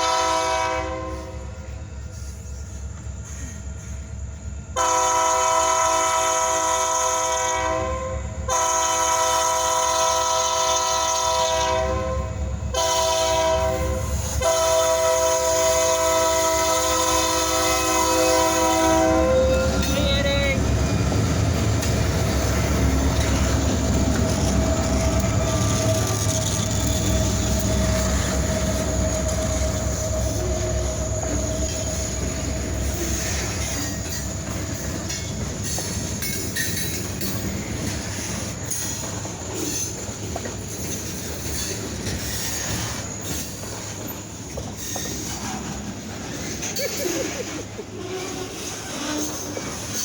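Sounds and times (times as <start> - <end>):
diesel locomotive engines rumbling: 0.0 - 50.0
train wheels running on rails: 0.0 - 50.0
train wheel squeal: 1.1 - 4.9, 9.1 - 50.0.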